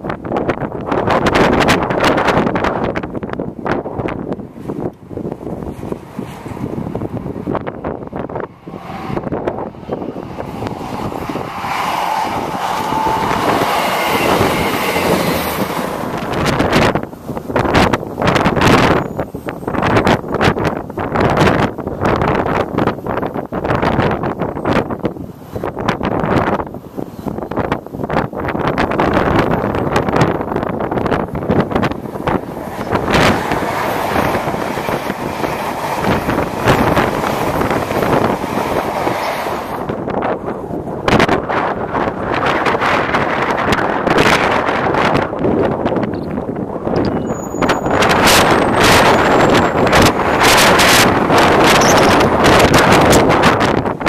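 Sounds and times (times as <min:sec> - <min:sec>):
train passing at speed: 0:00.0 - 0:54.0
wind buffeting microphone: 0:00.0 - 0:54.0.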